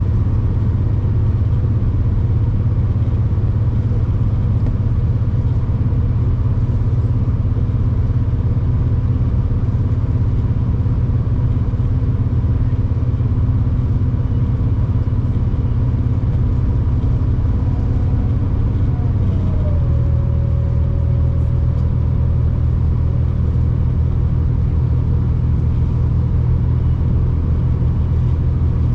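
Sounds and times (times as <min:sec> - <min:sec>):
diesel train rumbling: 0:00.0 - 0:28.9.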